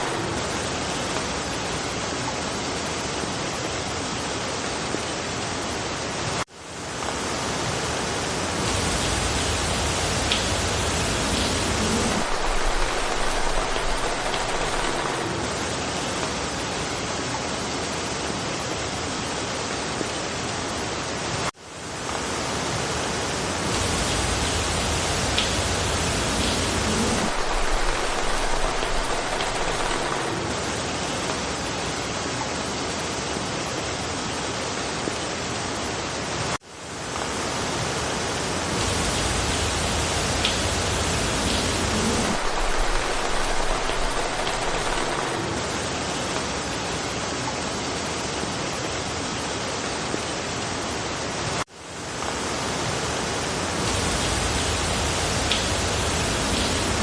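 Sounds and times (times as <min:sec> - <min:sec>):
rain falling through forest: 0:00.0 - 0:57.0.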